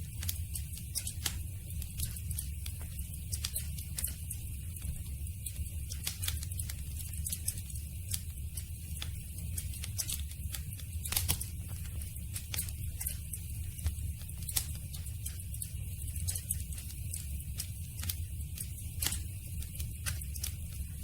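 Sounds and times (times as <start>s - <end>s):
campfire crackling and popping: 0.0s - 21.0s
fire low rumble: 0.0s - 21.0s.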